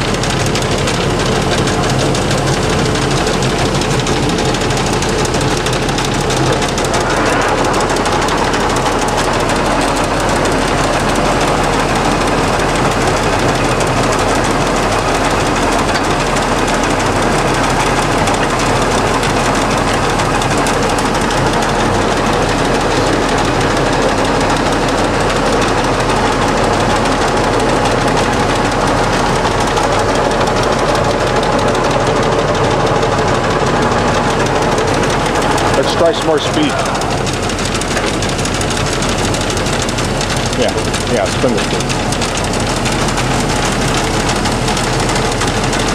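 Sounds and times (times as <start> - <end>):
gear whine: 0.0 - 45.9
lathe running: 0.0 - 45.9.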